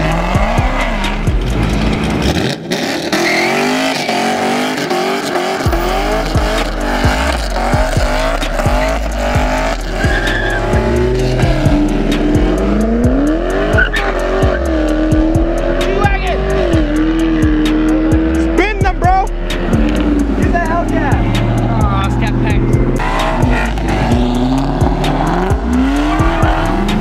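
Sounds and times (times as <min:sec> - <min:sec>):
car engines revving: 0:00.0 - 0:27.0
tires squealing: 0:00.0 - 0:27.0.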